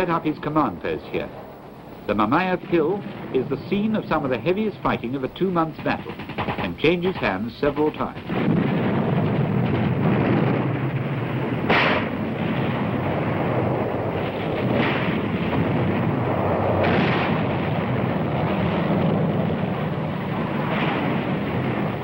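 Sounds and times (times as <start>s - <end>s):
loud sharp blasts: 0.0s - 22.0s
artillery and gunfire: 2.2s - 22.0s.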